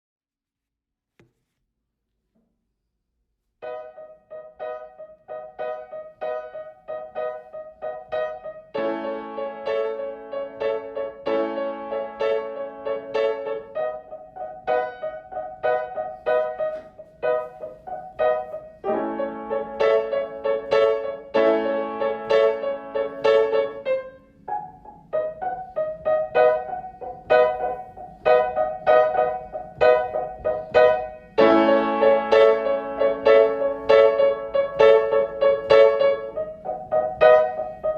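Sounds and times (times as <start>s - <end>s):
slow solo piano piece: 3.6s - 37.9s.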